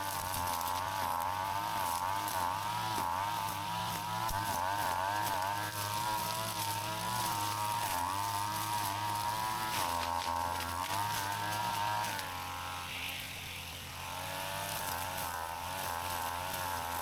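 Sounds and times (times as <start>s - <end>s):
brush cutter engine buzzing: 0.0s - 17.0s.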